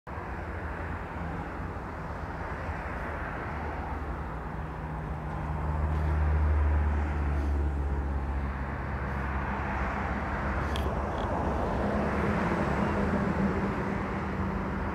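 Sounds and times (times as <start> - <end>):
traffic rumble: 0.1 - 14.9.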